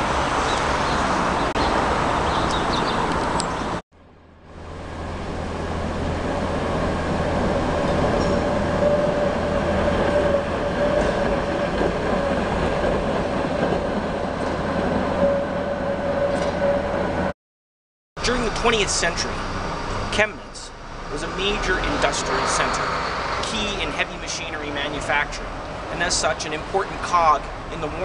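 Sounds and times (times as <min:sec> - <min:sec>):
engine hum with wavering whine: 0:00.0 - 0:17.3, 0:18.2 - 0:26.2.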